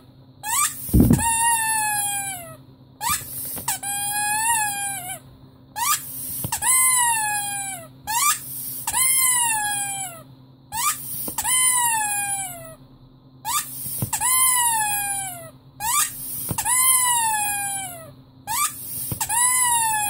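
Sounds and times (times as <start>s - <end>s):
rubber squeaky toy squeaking: 0.4s - 5.2s, 5.8s - 12.8s, 13.4s - 20.0s.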